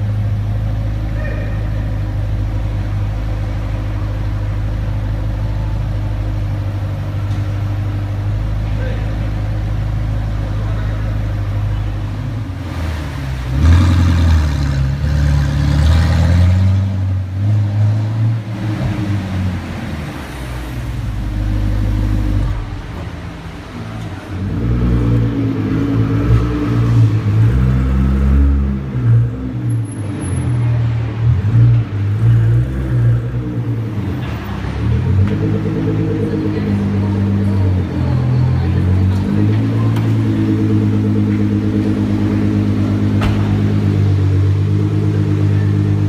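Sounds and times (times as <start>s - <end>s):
sports car engine revving: 0.0s - 46.0s.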